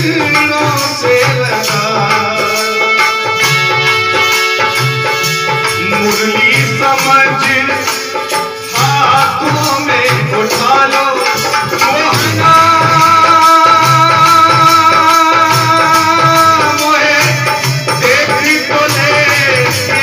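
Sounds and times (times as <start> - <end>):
man singing into microphone: 0.0 - 20.0
shaken percussion: 0.0 - 20.0.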